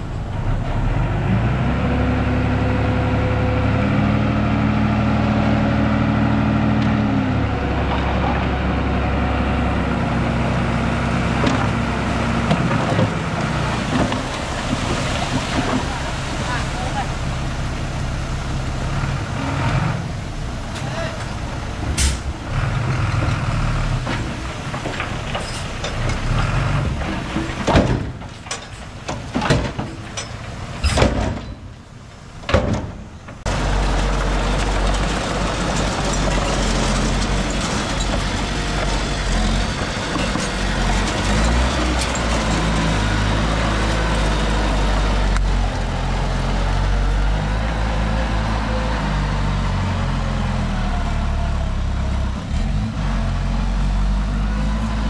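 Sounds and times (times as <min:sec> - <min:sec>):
diesel machinery engine: 0:00.0 - 0:55.0.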